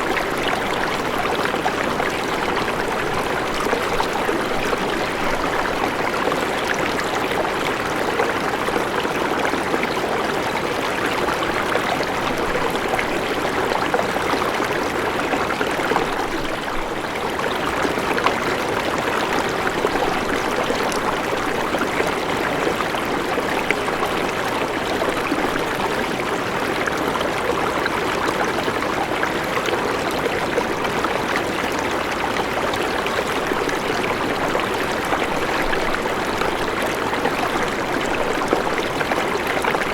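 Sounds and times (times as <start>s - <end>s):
river water over stones: 0.0s - 39.9s.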